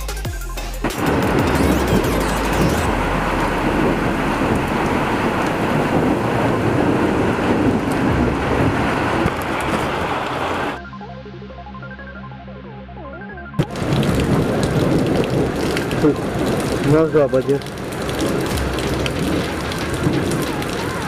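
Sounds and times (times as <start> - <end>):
heavy rain pouring: 0.8 - 10.8, 13.6 - 21.0
thunder rumbling: 0.9 - 10.8, 13.6 - 21.0.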